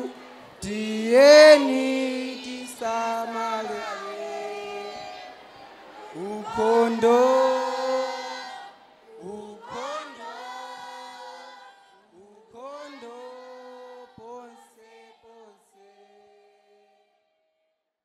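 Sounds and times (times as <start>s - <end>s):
voices singing together: 0.0s - 17.2s.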